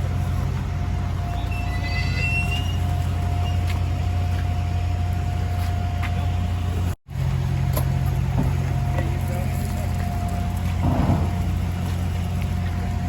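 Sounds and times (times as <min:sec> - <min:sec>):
heavy equipment engines droning: 0:00.0 - 0:13.0.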